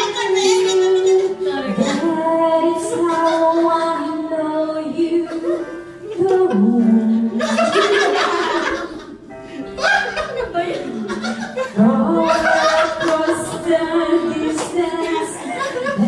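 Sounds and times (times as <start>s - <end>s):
music: 0.0s - 16.0s.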